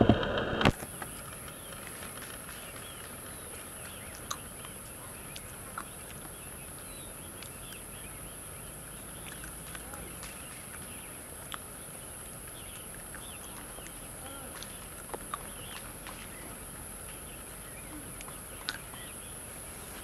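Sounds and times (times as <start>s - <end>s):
bird chirps: 0.9s - 20.0s.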